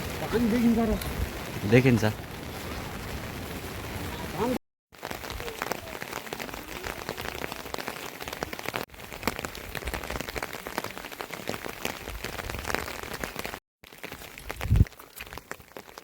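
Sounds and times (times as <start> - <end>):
rain hiss: 0.0 - 16.0
raindrops striking close by: 0.0 - 16.0.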